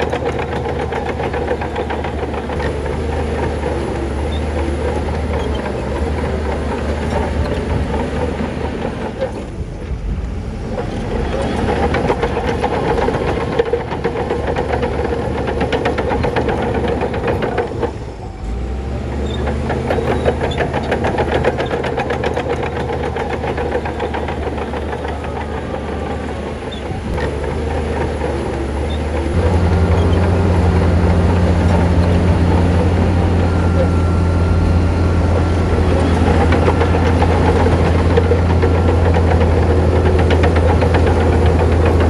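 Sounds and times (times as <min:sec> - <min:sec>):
bulldozer diesel engine: 0:00.0 - 0:42.0
steel tracks clattering: 0:00.0 - 0:42.0.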